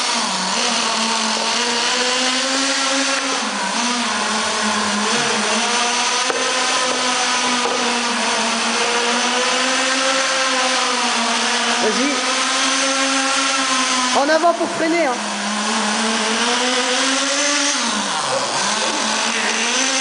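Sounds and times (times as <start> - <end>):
rc car nitro engine buzzing: 0.0 - 20.0.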